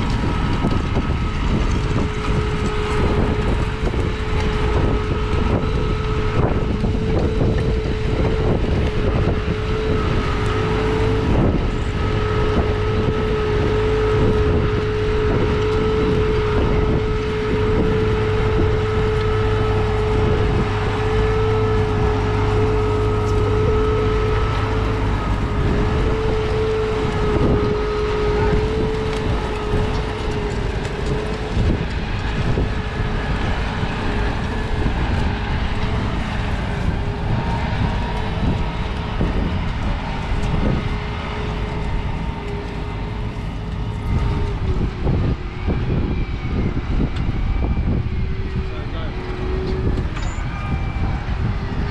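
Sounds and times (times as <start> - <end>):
diesel tractor engine rumble: 0.0 - 51.9
steady whine: 0.0 - 51.9.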